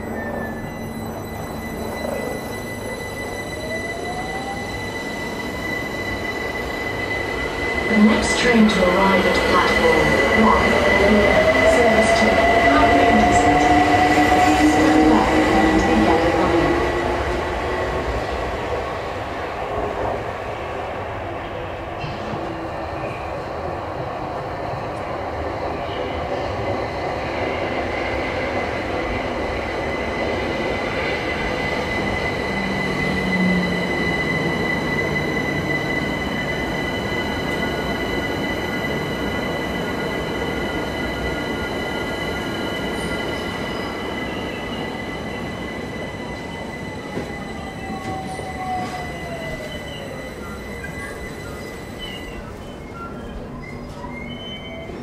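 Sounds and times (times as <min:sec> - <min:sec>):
electric train slowing to a stop: 0:00.0 - 0:55.0.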